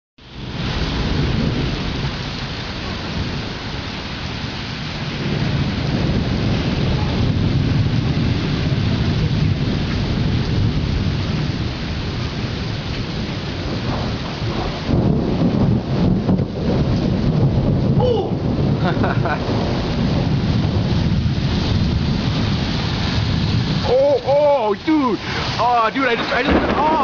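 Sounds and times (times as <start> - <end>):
rain falling: 0.2 - 27.0
rolling thunder: 0.4 - 27.0.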